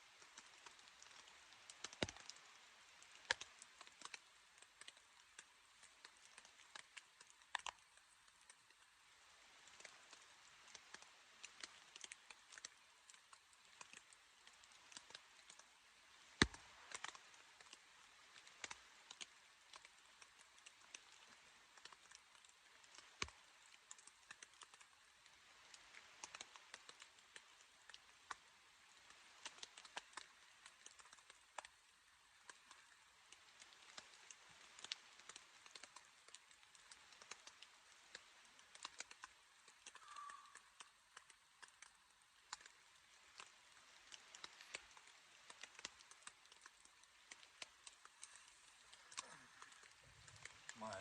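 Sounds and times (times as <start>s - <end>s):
rain pattering on tent fabric: 0.0s - 51.0s.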